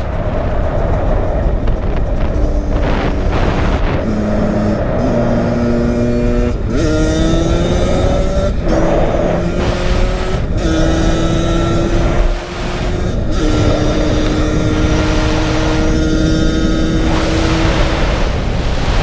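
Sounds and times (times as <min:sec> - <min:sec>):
two-stroke motorcycle engine accelerating: 0:00.0 - 0:19.0.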